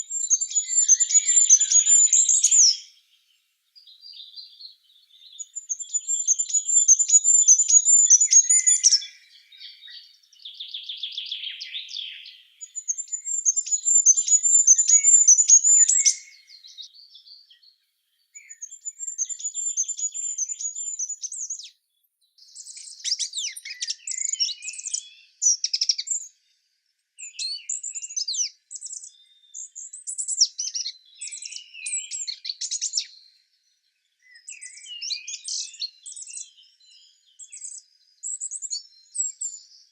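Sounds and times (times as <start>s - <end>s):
small songbirds singing: 0.0s - 39.9s.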